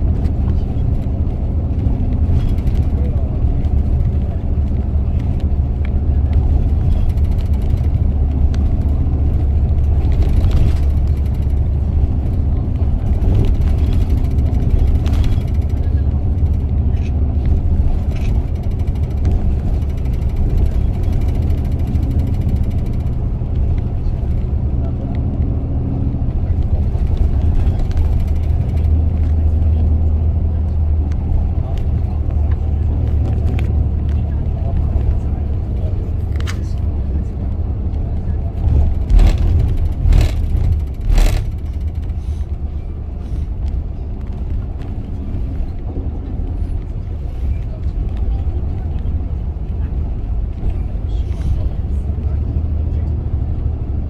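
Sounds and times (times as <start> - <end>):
vehicle interior rumble: 0.0 - 54.0.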